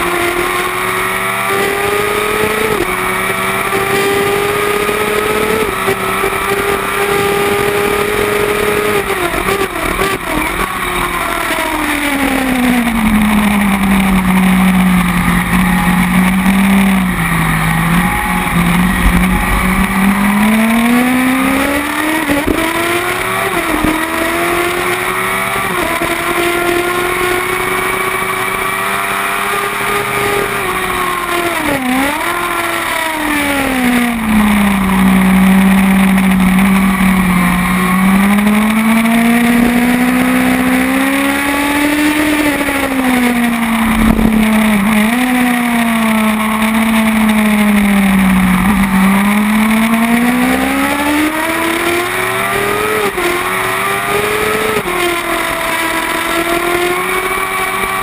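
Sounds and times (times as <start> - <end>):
racing motorcycle engine revving: 0.0 - 58.0
wind and road noise: 0.0 - 58.0.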